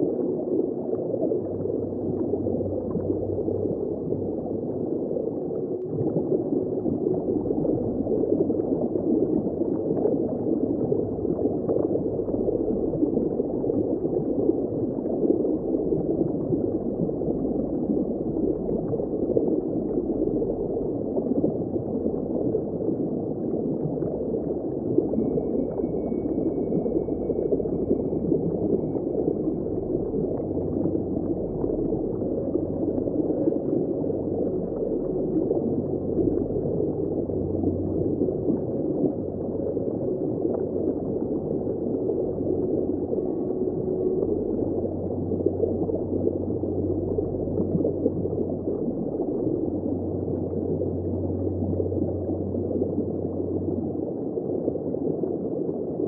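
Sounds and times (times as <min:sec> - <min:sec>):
muffled underwater churning water: 0:00.0 - 0:56.0.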